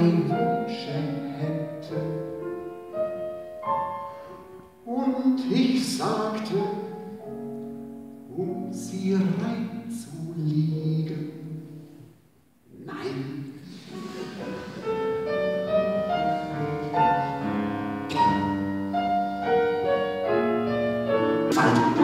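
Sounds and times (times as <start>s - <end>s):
classical piano music: 0.0s - 12.1s, 13.4s - 22.0s.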